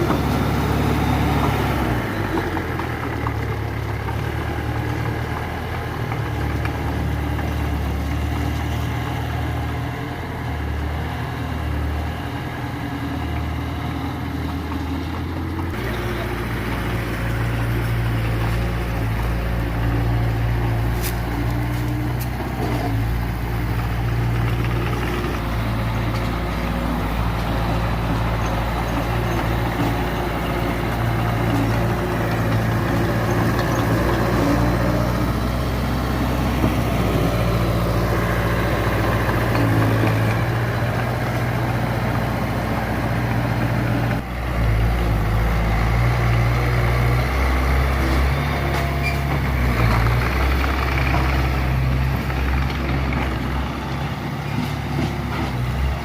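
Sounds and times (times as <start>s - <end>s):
heavy diesel machinery engine: 0.0s - 56.0s.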